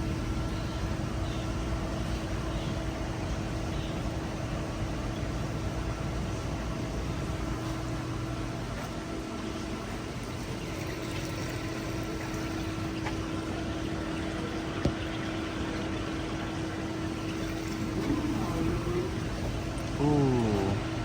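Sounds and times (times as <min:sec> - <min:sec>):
aquarium pumps humming with water: 0:00.0 - 0:21.0.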